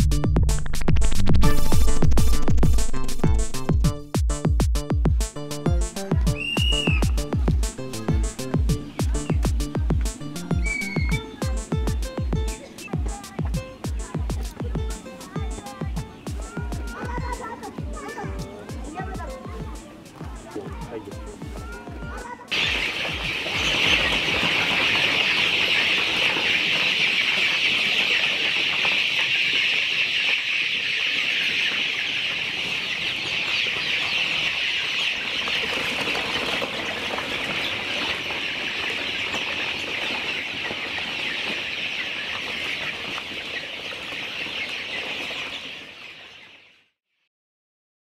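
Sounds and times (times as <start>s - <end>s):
chickens clucking: 5.5s - 46.8s.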